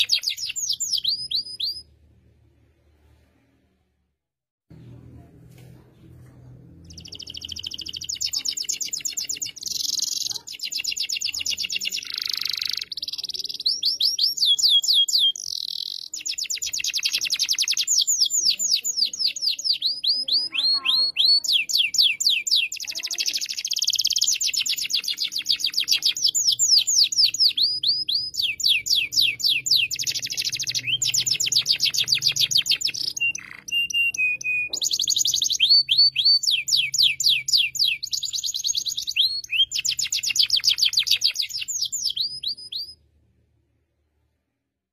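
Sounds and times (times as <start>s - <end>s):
canary singing trills: 0.0s - 1.9s, 6.8s - 43.0s.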